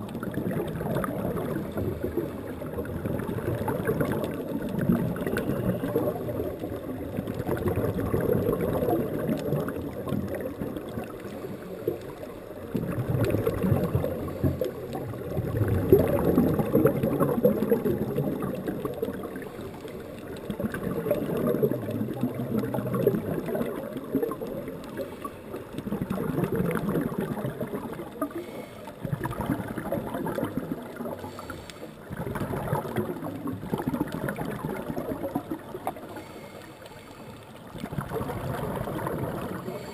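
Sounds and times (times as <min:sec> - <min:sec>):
underwater bubbling gurgle: 0:00.0 - 0:39.9.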